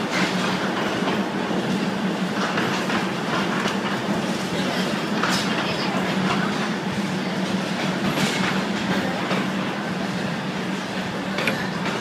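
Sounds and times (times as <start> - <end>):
train running: 0.0 - 12.0.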